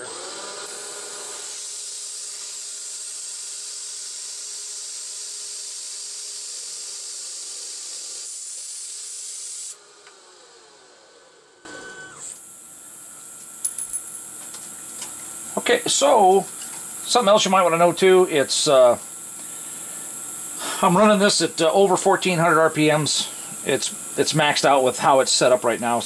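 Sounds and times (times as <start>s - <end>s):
lathe cutting steel hiss: 0.0s - 10.5s, 11.7s - 26.0s
faint motor whine: 0.0s - 26.0s.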